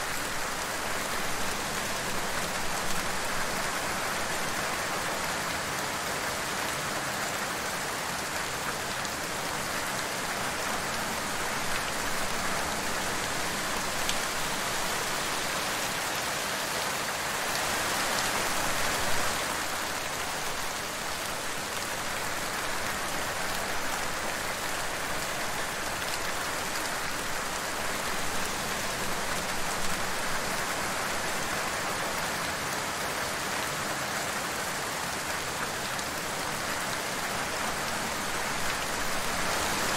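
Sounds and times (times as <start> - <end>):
rain spatters: 0.0 - 16.4, 17.1 - 39.9
steady rainfall: 0.0 - 39.9.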